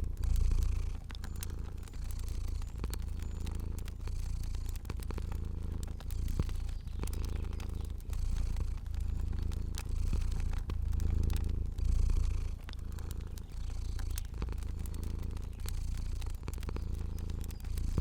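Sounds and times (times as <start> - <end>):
cat purring: 0.0 - 18.0
fire crackling: 0.0 - 18.0.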